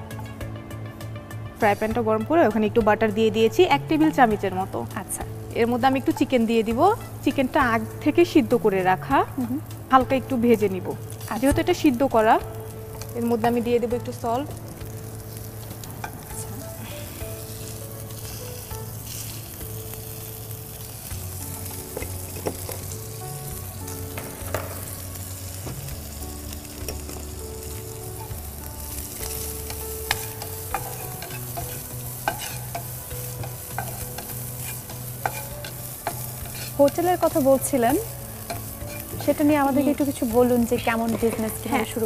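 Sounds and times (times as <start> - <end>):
chicken sizzling in a frying pan: 3.6 - 42.0.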